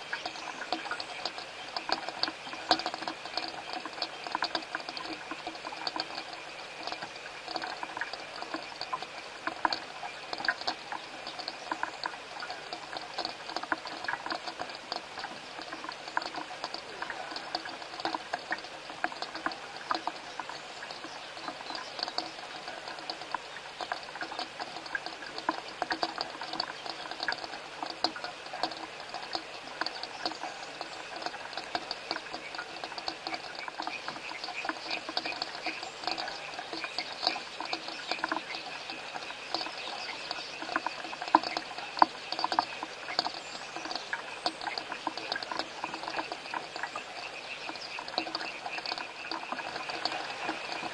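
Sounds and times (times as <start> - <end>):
rain pattering and dripping: 0.0 - 50.9.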